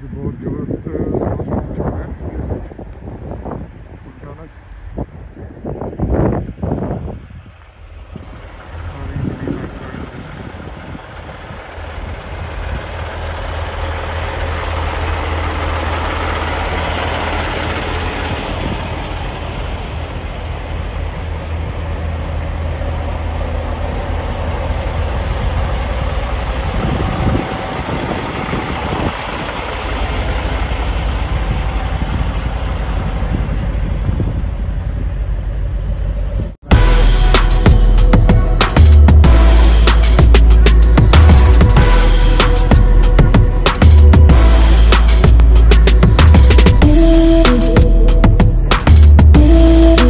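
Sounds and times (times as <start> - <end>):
vehicle engine humming: 0.0 - 50.0
broad rushing noise: 1.0 - 50.0.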